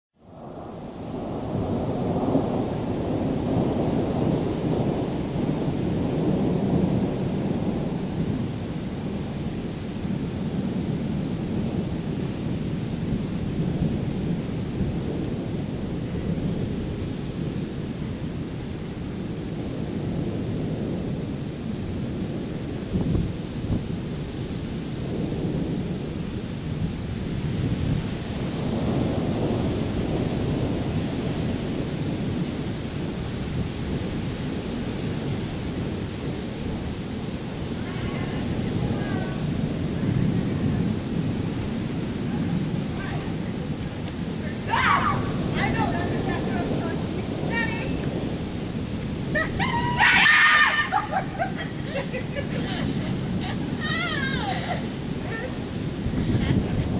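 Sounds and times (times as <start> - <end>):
distant thunder rumbling: 0.2 - 56.9
faint rain hiss: 0.2 - 56.9.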